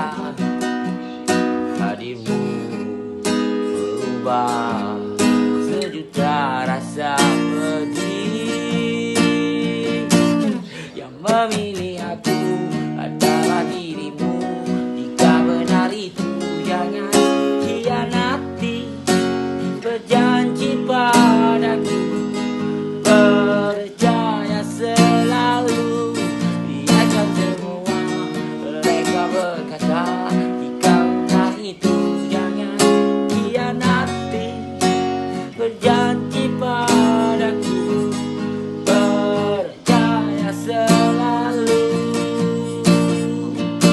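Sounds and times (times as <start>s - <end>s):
acoustic guitar strumming: 0.0s - 43.9s
picked guitar melody: 0.0s - 43.9s.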